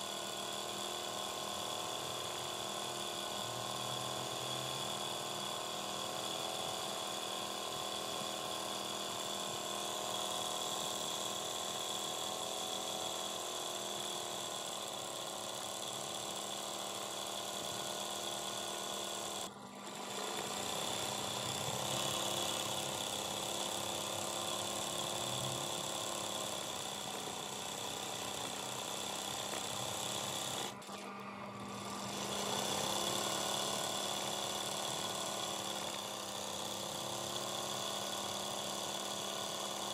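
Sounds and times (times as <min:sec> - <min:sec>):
sewing machine running fast: 0:00.0 - 0:39.9.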